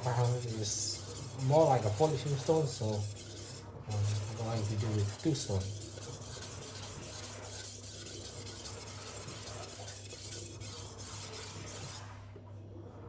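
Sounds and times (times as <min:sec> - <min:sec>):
blade scraping on whetstone: 0:00.0 - 0:12.0.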